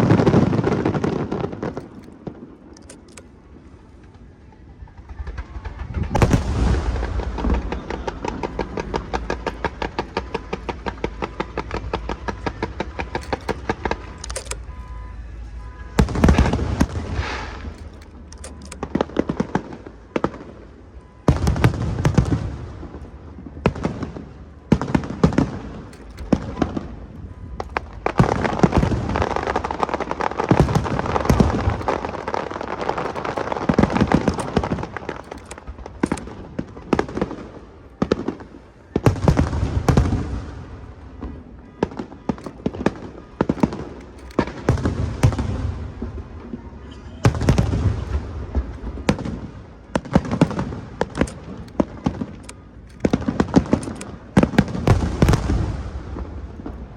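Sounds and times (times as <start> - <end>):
fireworks booming: 0.0 - 56.9
fireworks crackling: 0.0 - 56.9.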